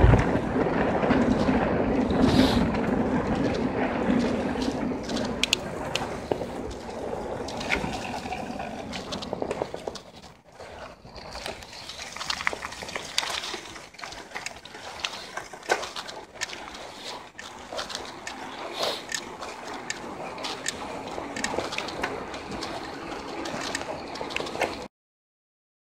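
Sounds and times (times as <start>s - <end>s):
bike clicks and rattles: 0.0s - 24.9s
bicycle tyres hissing on wet road: 1.5s - 24.9s.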